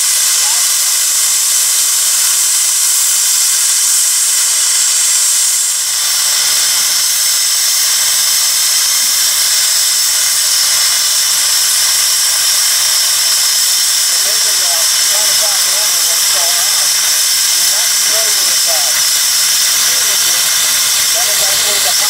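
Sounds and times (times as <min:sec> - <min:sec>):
steam venting hiss: 0:00.0 - 0:22.0.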